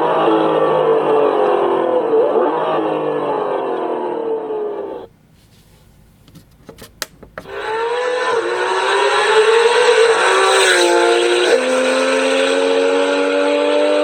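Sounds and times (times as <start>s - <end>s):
car engine revving: 0.0s - 5.1s, 7.4s - 14.0s.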